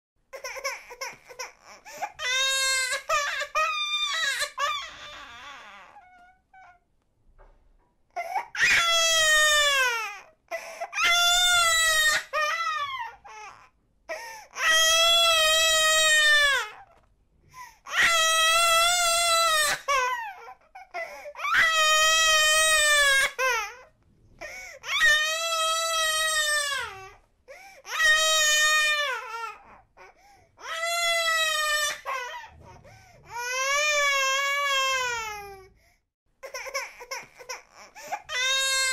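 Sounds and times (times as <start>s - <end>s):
baby crying: 0.3s - 6.8s, 8.2s - 17.0s, 17.8s - 27.2s, 27.8s - 35.7s, 36.4s - 38.9s.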